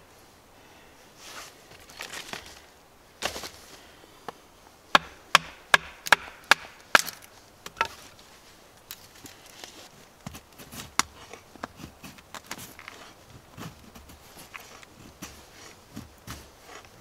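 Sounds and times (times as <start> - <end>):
rustle of handling: 1.0 - 4.8, 7.1 - 17.0.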